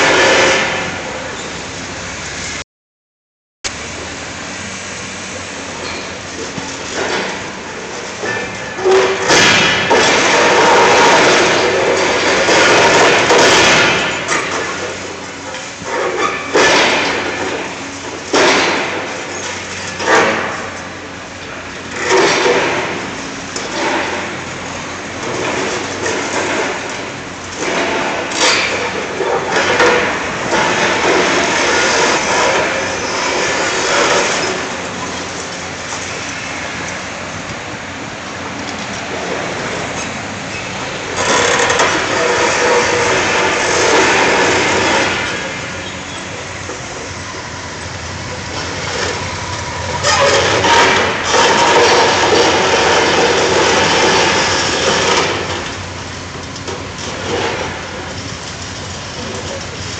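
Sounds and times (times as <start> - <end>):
excavator engine running: 3.7 - 59.9
concrete crunching and grinding: 5.8 - 20.8, 21.5 - 37.7, 38.7 - 59.9.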